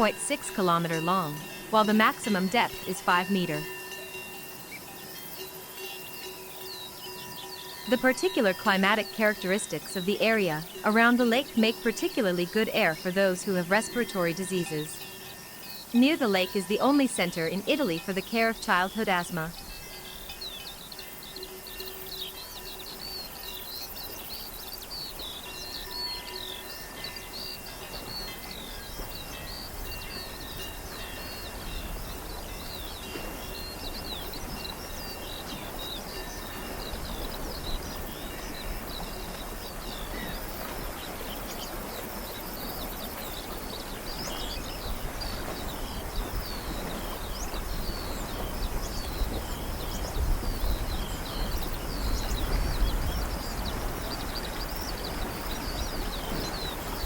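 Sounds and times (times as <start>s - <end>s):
outdoor background noise: 0.0s - 57.0s
small birds chirping: 0.0s - 57.0s.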